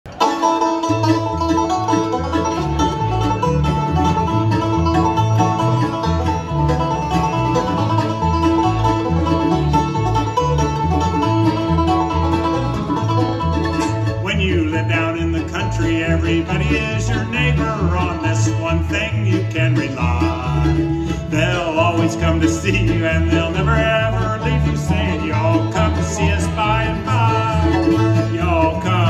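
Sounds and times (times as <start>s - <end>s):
bluegrass band playing: 0.0s - 29.0s.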